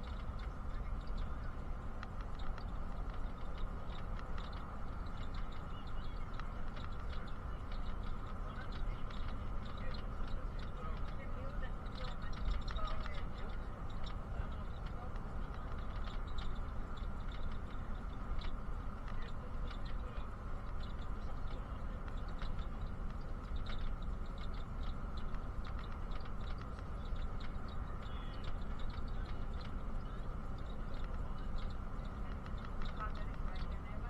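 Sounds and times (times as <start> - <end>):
bus engine and road rumble: 0.0 - 34.0
cabin rattles and ticks: 0.0 - 34.0.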